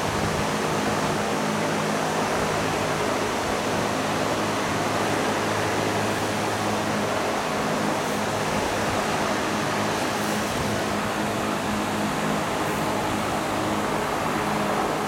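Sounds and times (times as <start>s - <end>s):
large fan rushing air: 0.0s - 15.0s.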